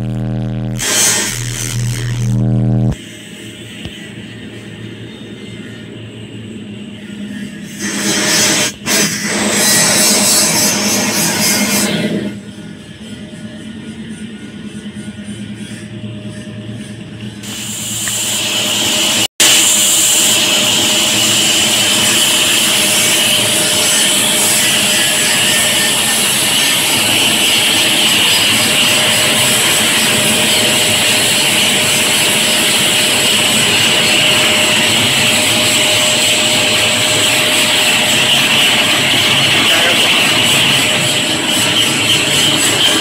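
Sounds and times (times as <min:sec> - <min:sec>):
machine drone with high whine: 0:00.0 - 0:43.0.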